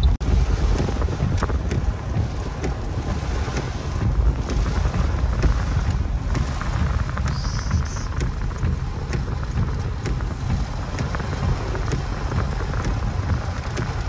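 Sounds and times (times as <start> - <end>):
rain ticking on car: 0.0 - 14.0
road and cabin rumble: 0.0 - 14.0.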